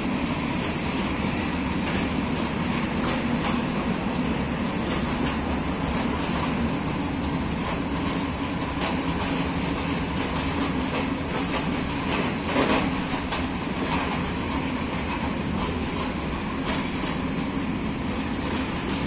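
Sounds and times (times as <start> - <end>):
freight train rumbling: 0.0 - 19.0
train clatter: 0.0 - 19.0
wheel clicks over rail joints: 0.5 - 19.0.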